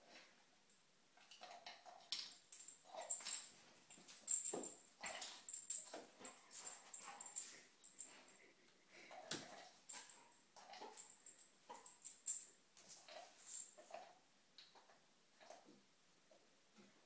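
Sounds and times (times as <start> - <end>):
paws clicking on tile floor: 1.2 - 15.6.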